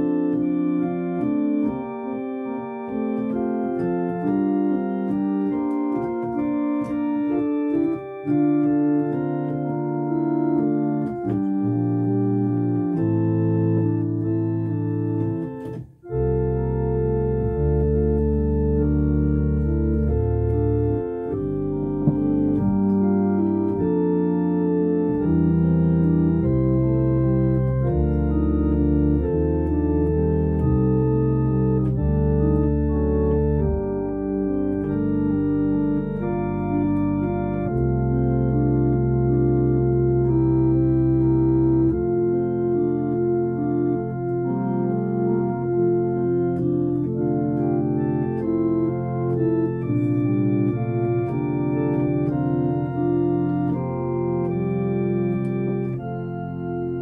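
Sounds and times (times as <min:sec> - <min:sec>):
organ playing held chords: 0:00.0 - 0:57.0.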